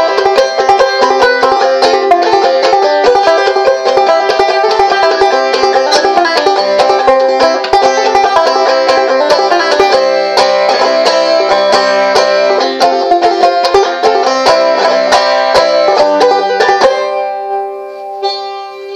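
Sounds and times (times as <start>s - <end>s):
banjo picking and strumming: 0.0s - 18.9s.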